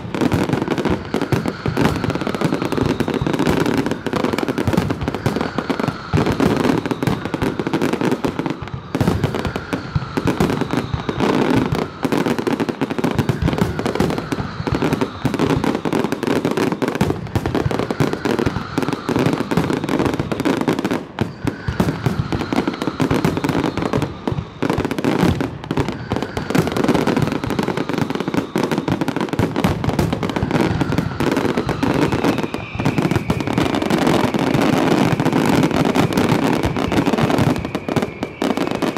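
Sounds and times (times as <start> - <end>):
fireworks bangs and crackles: 0.0 - 38.9
fireworks falling whistles: 0.0 - 38.9.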